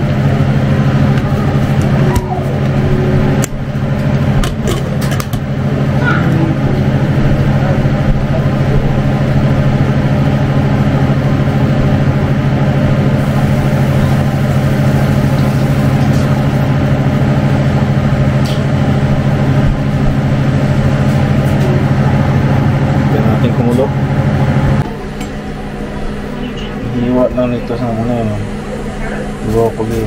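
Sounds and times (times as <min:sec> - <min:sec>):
exhaust fan humming: 0:00.0 - 0:30.0.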